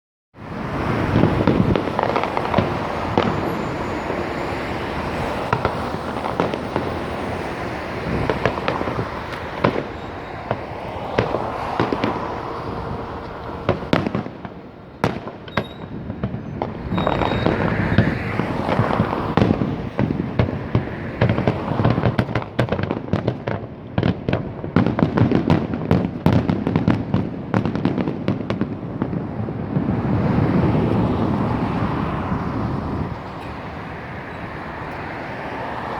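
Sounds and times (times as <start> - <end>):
fireworks bangs and crackling: 0.4 - 35.9.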